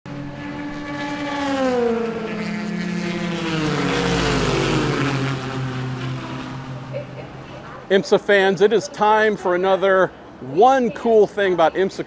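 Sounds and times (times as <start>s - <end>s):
race car engine passing: 0.1s - 10.5s.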